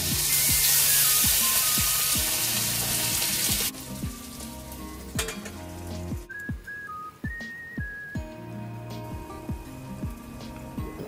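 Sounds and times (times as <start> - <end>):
background music: 0.0 - 11.0
sizzling on a wood stove: 0.0 - 11.0.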